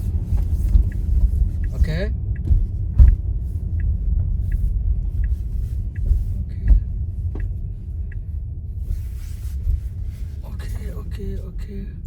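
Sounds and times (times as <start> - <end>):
car driving rumble: 0.0 - 12.0
turn signal ticking: 0.0 - 12.0.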